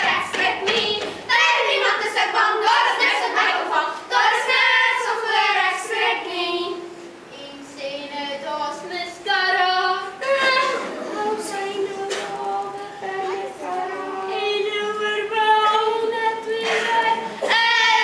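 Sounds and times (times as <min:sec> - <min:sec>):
children singing: 0:00.0 - 0:07.0, 0:07.6 - 0:18.0.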